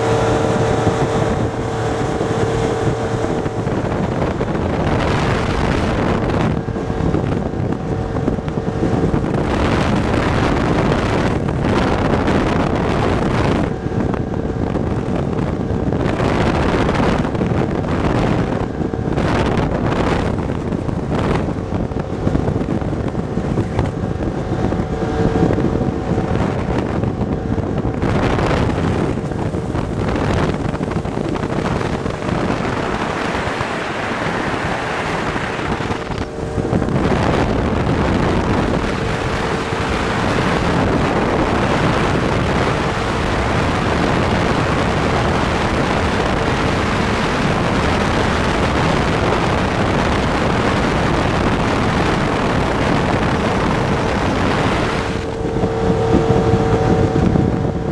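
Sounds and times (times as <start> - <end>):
motorboat engine drone: 0.0 - 57.9
water rushing along hull: 0.0 - 57.9
wind buffeting microphone: 0.0 - 57.9.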